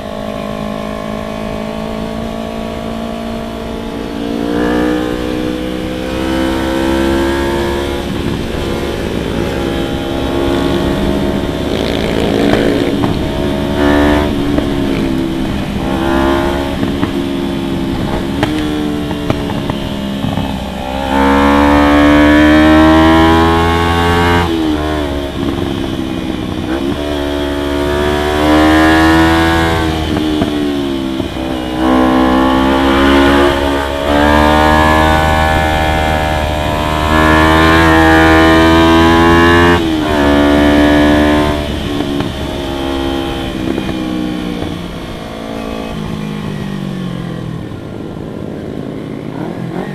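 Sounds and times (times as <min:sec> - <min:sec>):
motorcycle engine accelerating: 0:00.0 - 0:49.9
road and wind noise: 0:00.0 - 0:49.9.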